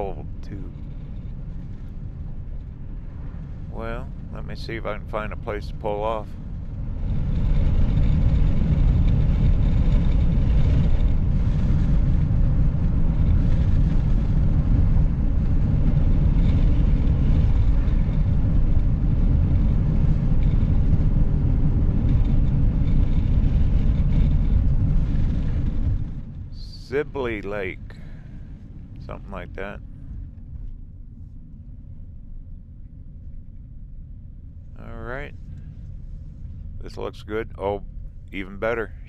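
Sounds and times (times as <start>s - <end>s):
road and engine rumble: 0.0s - 39.0s.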